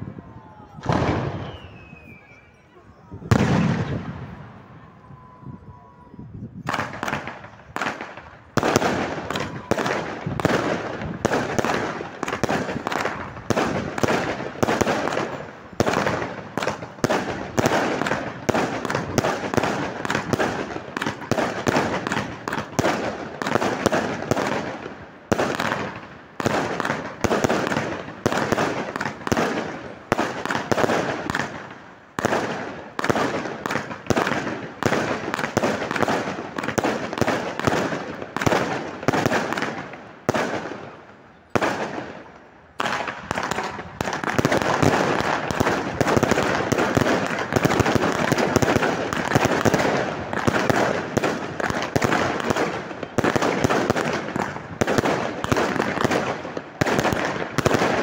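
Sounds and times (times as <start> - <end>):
fireworks crackling: 0.0 - 5.2, 6.5 - 58.0
fireworks bursting: 0.0 - 5.4, 6.5 - 58.0.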